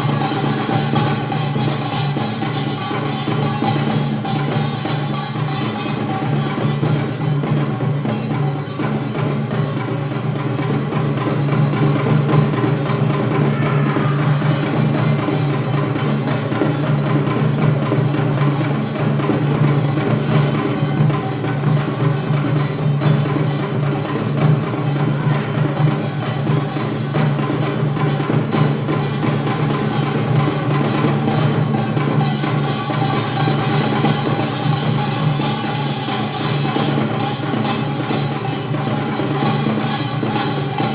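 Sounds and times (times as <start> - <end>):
percussion ensemble playing: 0.0 - 40.9.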